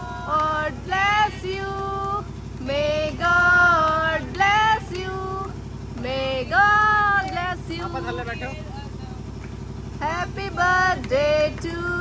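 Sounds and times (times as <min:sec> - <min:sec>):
group singing a celebration song: 0:00.0 - 0:08.0, 0:10.0 - 0:12.0
low mechanical hum: 0:00.0 - 0:12.0.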